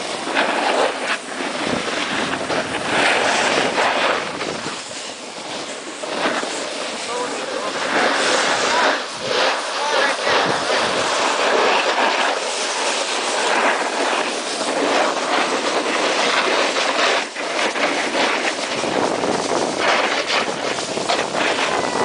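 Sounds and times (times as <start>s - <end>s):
snowboard scraping on snow: 0.0s - 22.0s.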